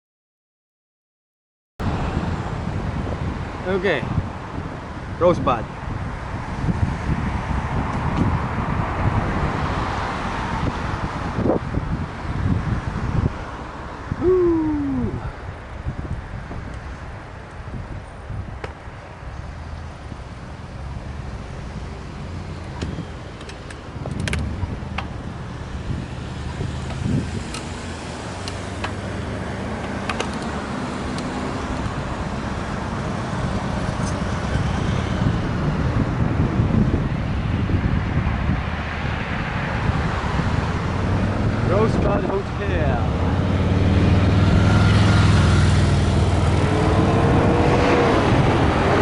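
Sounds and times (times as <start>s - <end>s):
cars going by: 1.8s - 49.0s.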